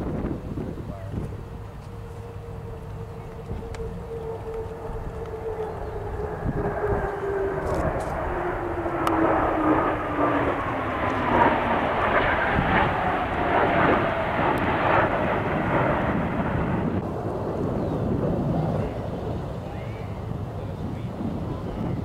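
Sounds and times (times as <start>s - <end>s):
jets flying past: 0.0s - 22.0s.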